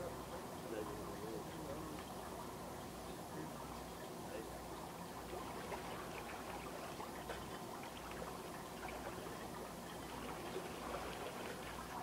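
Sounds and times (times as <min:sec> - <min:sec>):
pool water sloshing and splashing: 0:00.8 - 0:12.0.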